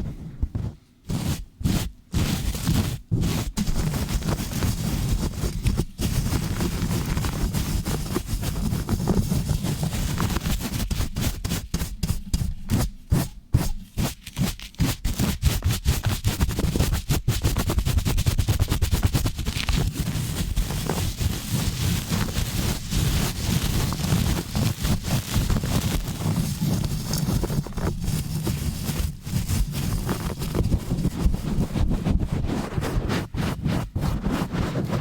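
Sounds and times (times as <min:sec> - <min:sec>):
rubbing on microphone: 0:00.0 - 0:35.0.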